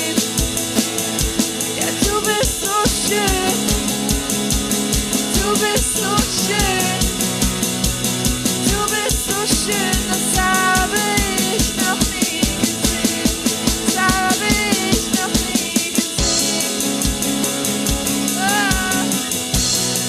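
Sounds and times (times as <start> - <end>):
drum kit steady beat: 0.0 - 20.0.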